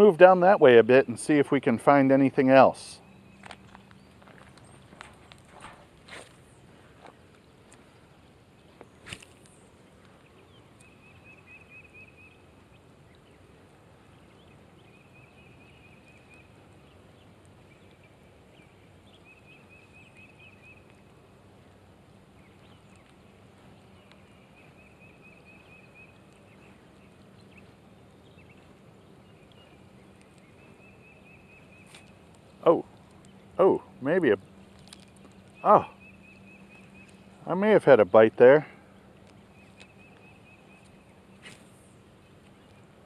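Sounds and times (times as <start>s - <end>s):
light rain falling on a pond: 0.0s - 43.0s.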